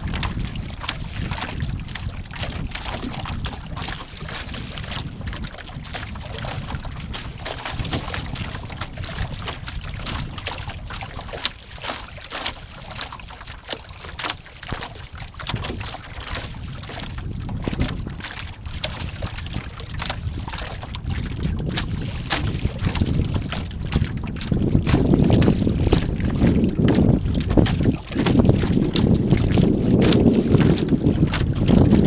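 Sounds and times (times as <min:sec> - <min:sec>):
water slapping against boat hull: 0:00.0 - 0:32.0
wind buffeting microphone: 0:00.0 - 0:32.0.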